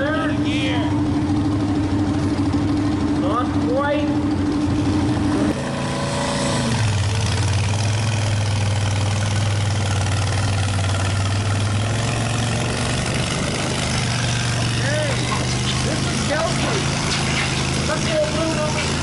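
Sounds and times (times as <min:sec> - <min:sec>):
lawn tractor engine: 0:00.0 - 0:19.0.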